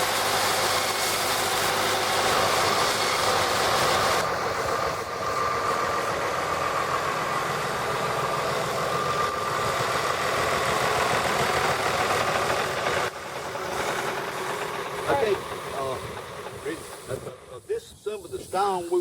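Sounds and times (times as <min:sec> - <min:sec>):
rock saw cutting stone: 0:00.0 - 0:17.3.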